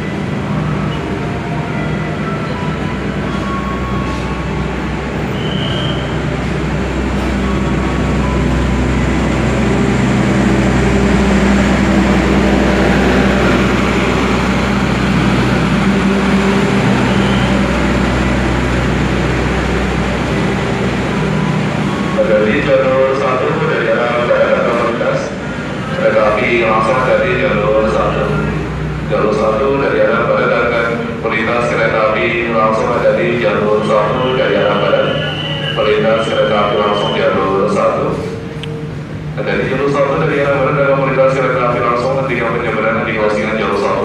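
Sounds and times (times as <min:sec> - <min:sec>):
train coaches rolling past: 0:00.0 - 0:44.0.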